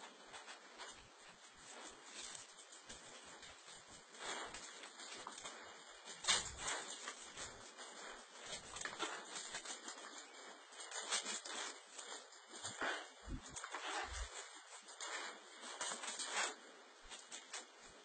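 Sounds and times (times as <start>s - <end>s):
dog scratching and scuffling: 0.0s - 18.0s.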